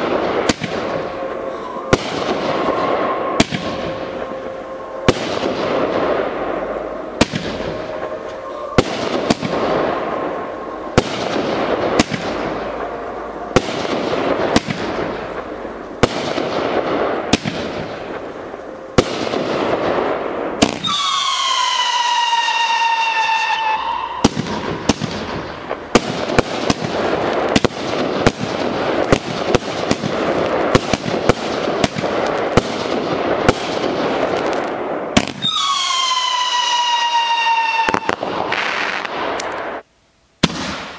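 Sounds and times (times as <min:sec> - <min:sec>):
falling firework whistle: 0:00.0 - 0:28.4, 0:34.4 - 0:39.8
fireworks crackling: 0:00.0 - 0:40.9
fireworks launching and bursting: 0:00.0 - 0:40.9.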